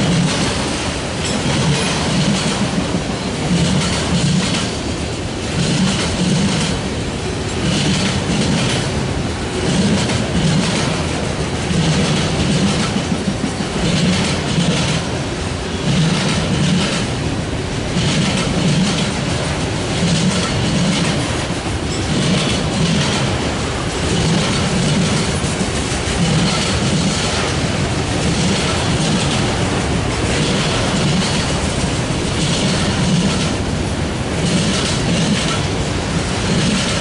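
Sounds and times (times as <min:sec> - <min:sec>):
train wheels rumbling on rail: 0:00.0 - 0:37.0
wheels clickety-clack: 0:00.0 - 0:37.0.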